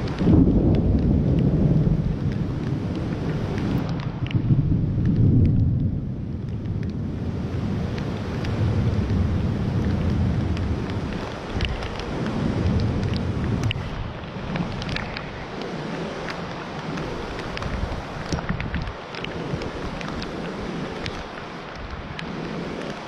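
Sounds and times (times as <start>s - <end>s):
low storm rumble: 0.0s - 23.0s
wind buffeting microphone: 0.0s - 23.0s.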